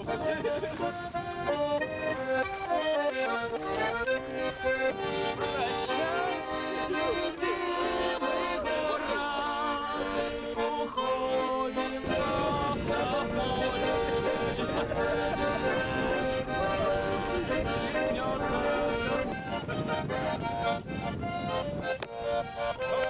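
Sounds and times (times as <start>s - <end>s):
button accordion folk tune: 0.0s - 23.0s.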